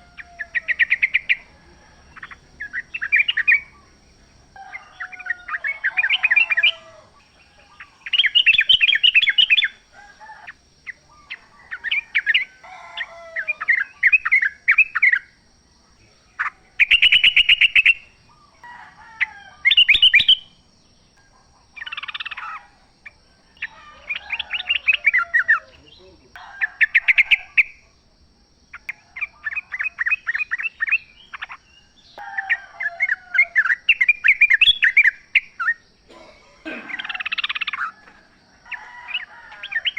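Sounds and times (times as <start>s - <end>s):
bulbuls singing bubbly chatter: 0.0s - 39.9s.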